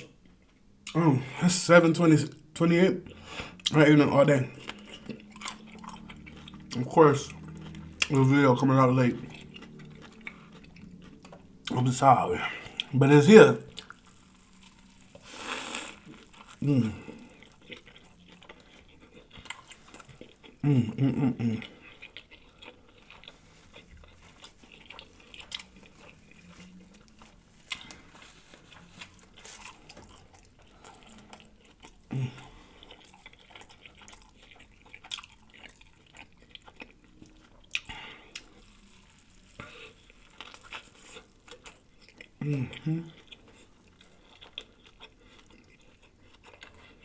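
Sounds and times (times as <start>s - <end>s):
person chewing and smacking: 0.0s - 47.0s.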